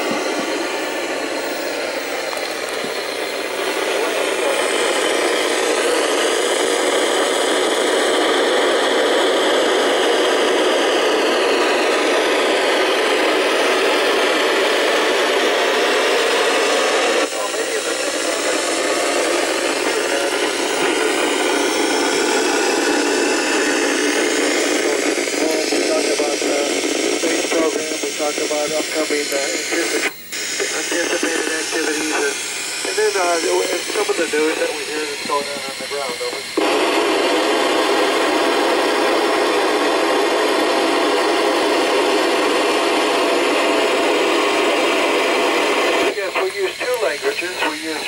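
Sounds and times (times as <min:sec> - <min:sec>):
radio static: 0:00.0 - 0:48.0.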